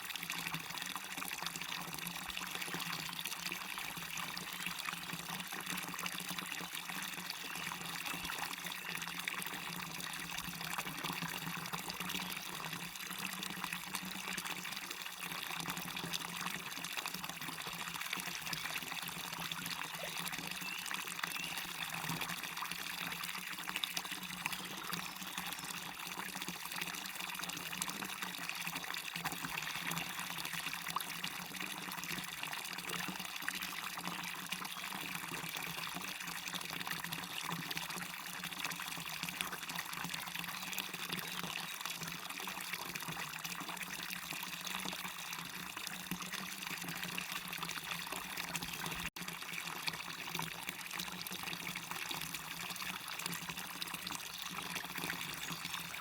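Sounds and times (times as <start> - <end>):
small waterfall splashing: 0.0 - 56.0
stream running: 0.0 - 56.0.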